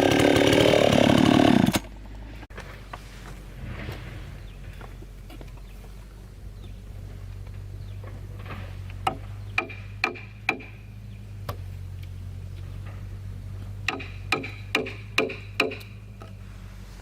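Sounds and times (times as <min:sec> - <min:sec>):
low hum: 0:01.7 - 0:17.0.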